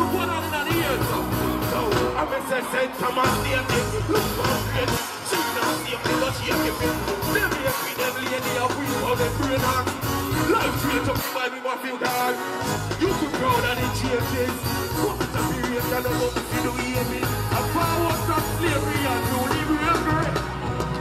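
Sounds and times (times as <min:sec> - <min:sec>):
heavy bass dancehall beat: 0:00.0 - 0:20.6
amplified vocal: 0:00.0 - 0:20.8.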